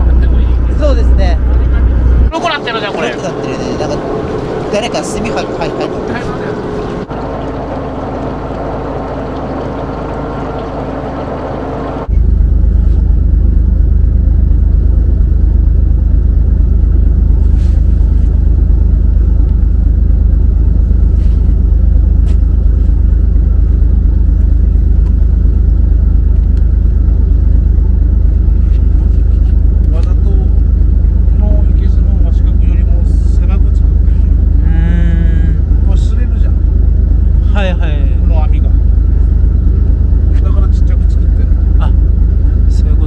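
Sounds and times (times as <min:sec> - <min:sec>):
boat engine low hum: 0:00.0 - 0:43.0
deep boat engine rumble: 0:00.0 - 0:43.0.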